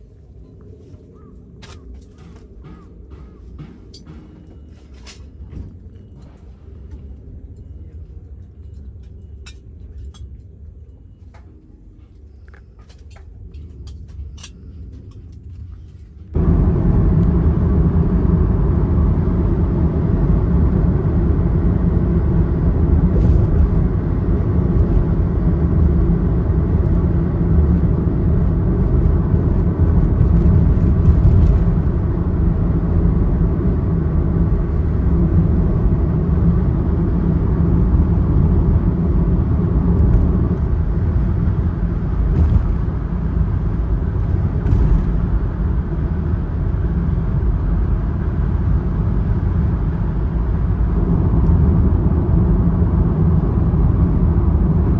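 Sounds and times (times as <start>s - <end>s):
van engine and tyre rumble: 0.0s - 54.9s.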